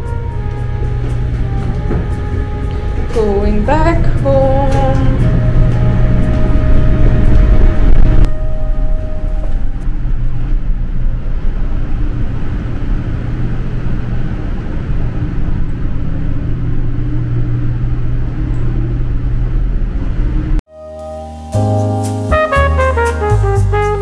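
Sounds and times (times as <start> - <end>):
ship engines rumbling: 0.0 - 20.6.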